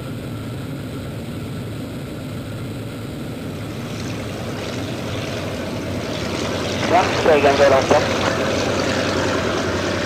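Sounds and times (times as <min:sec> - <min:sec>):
propeller plane piston engine: 0:00.0 - 0:10.0.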